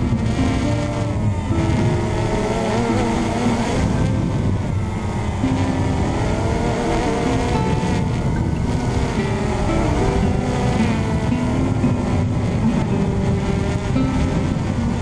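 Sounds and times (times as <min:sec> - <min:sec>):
propeller wash rush: 0:00.0 - 0:15.0
quadcopter motors whining: 0:00.0 - 0:15.0.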